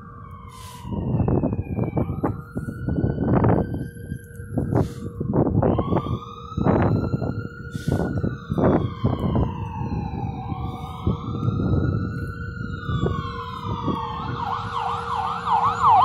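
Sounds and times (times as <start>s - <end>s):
fire truck sirens wailing: 0.0s - 16.0s
siren fast yelp: 0.2s - 16.0s.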